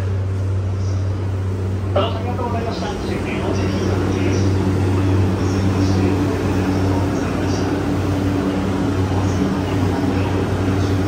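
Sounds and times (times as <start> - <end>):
train equipment humming: 0.0 - 11.0.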